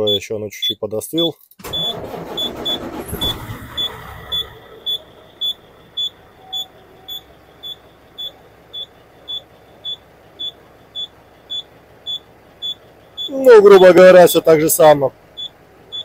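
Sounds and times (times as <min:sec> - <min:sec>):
high warning beeps: 0:00.0 - 0:14.5, 0:15.3 - 0:16.0
diesel engine idling: 0:01.2 - 0:16.0.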